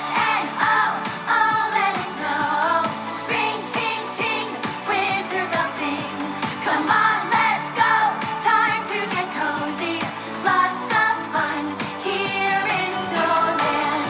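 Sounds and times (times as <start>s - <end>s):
pop song with vocals: 0.0s - 14.0s.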